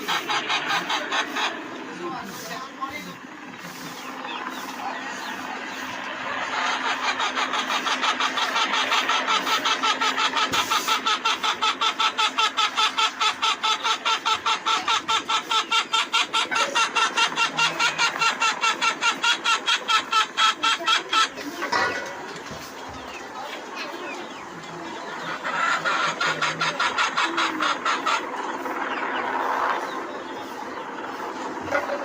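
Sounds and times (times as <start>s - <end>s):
helicopter rotor beating: 0.0s - 32.0s.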